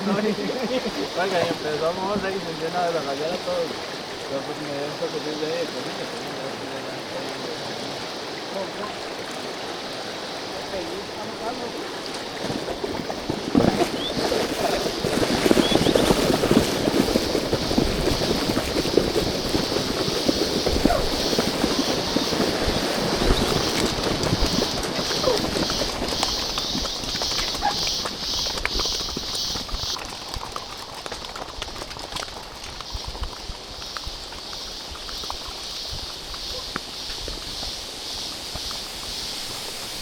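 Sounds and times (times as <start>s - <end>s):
horse hooves clip-clopping: 0.0s - 7.3s, 8.6s - 40.0s
pulsing insect chorus: 0.0s - 40.0s.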